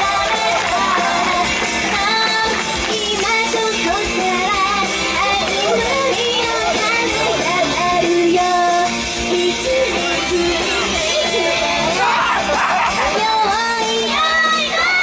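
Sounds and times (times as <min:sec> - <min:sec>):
woman singing pop song over loudspeakers: 0:00.0 - 0:15.0.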